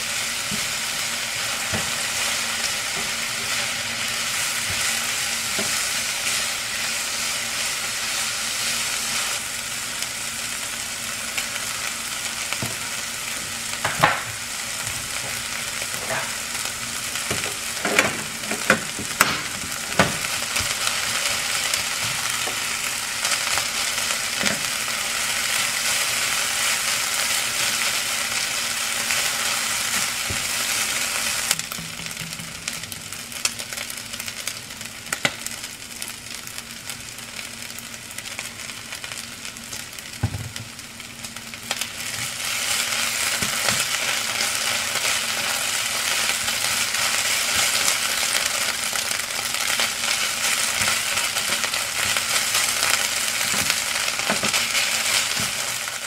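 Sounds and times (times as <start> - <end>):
rice and vegetables sizzling in pan: 0.0 - 56.0.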